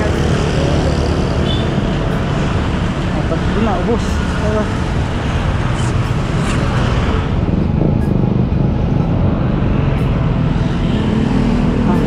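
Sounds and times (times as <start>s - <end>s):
motorcycles: 0.0s - 12.0s
road traffic passing: 0.0s - 12.0s.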